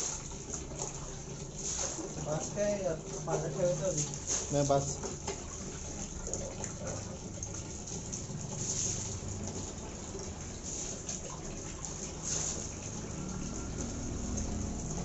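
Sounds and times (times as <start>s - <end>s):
water splashing over vegetables: 0.0s - 15.0s.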